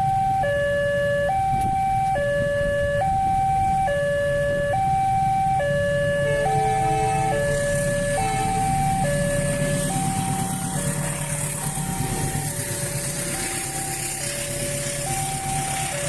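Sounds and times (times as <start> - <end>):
level-crossing warning signal: 0.0 - 16.0
low engine rumble: 0.0 - 16.0.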